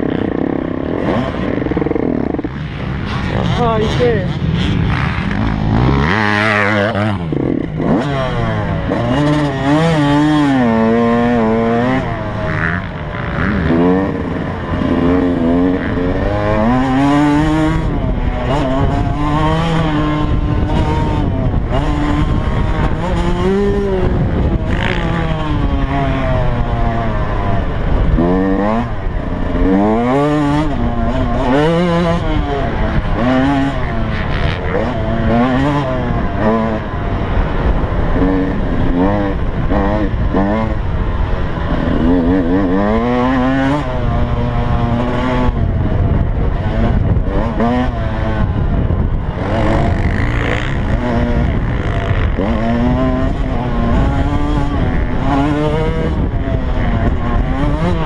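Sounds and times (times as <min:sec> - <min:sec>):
dirt bike engine revving: 0:00.0 - 0:58.0
rushing wind noise: 0:00.0 - 0:58.0.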